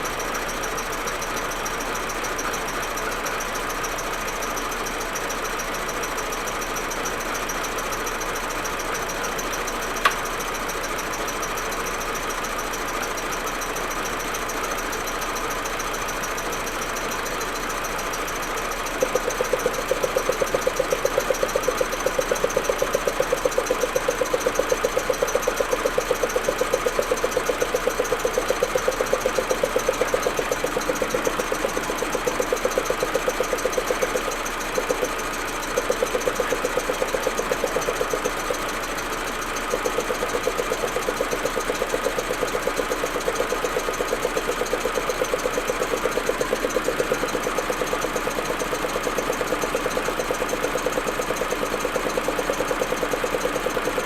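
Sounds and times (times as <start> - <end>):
car engine idling roughly: 0.0 - 54.0.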